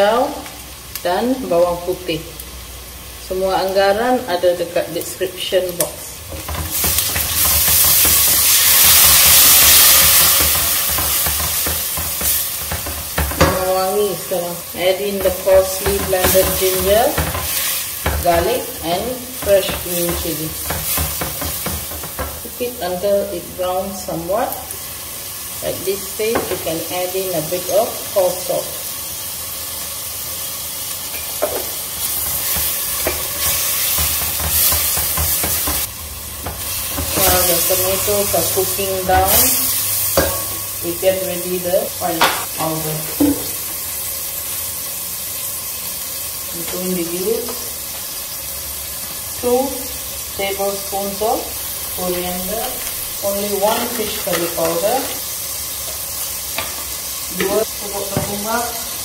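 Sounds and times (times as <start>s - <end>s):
paste sizzling in hot oil: 0.6s - 59.0s.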